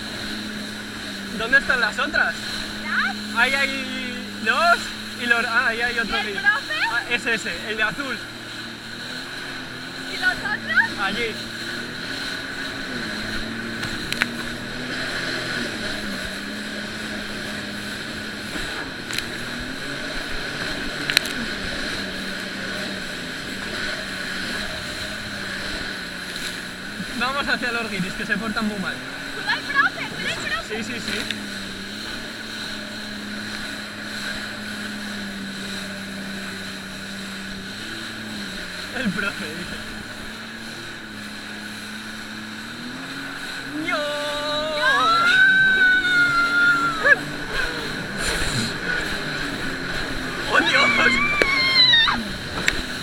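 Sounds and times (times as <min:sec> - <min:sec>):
jet ski engine running: 0:00.0 - 0:53.0
water noise: 0:00.0 - 0:53.0.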